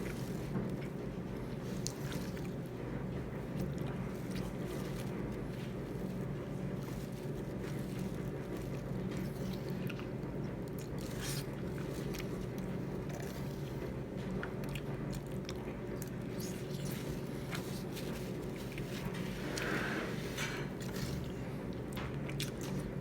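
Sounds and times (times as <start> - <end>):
biting and chewing food: 0.0 - 23.0
low background hum: 0.0 - 23.0.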